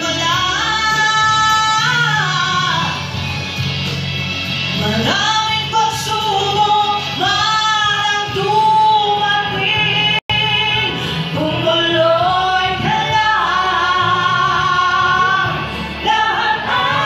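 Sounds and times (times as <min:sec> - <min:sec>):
woman singing a ballad: 0:00.0 - 0:03.2, 0:04.7 - 0:17.0.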